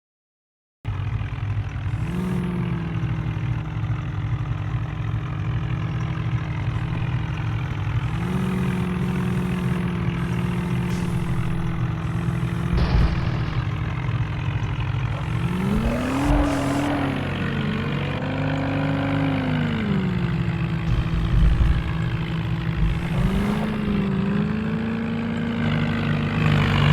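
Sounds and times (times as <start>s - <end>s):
tractor engine running: 0.9s - 26.9s.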